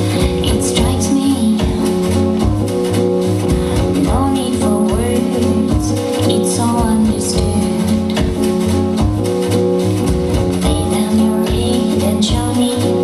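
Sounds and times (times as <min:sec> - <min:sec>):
music with steady bass beat: 0:00.0 - 0:13.0.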